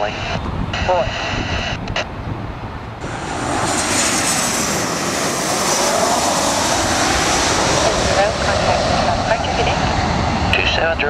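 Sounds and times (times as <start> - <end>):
jet engines passing: 0.0 - 11.0.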